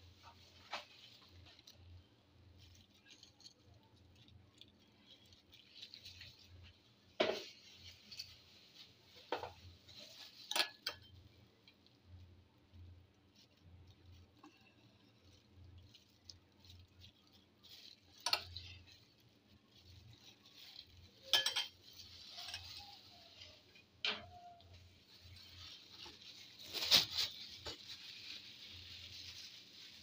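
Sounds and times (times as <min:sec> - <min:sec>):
plastic glove crinkling: 0:00.0 - 0:30.0.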